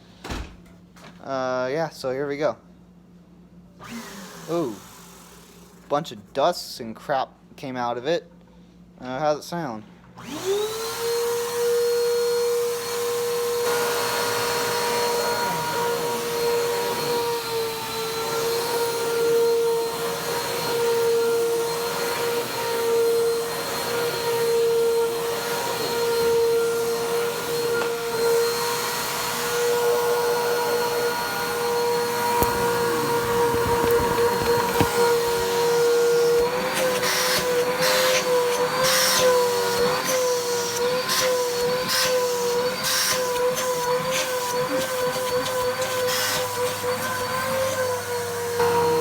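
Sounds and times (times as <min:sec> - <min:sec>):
vacuum cleaner motor whining: 0:03.8 - 0:05.8, 0:10.2 - 0:49.0.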